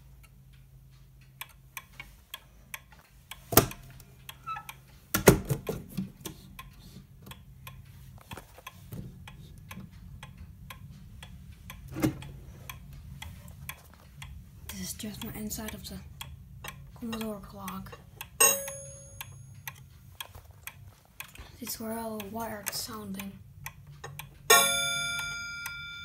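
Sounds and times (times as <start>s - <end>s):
wall clock ticking: 0.0s - 26.0s.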